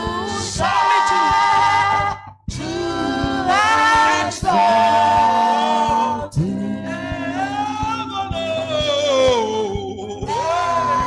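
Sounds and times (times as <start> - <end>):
musical accompaniment: 0.0 - 11.0
person singing gospel: 0.0 - 11.0.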